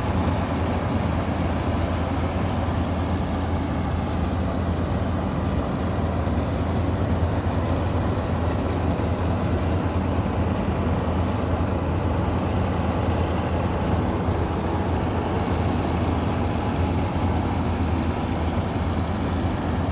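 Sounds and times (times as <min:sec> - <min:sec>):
combine harvester running: 0:00.0 - 0:19.9.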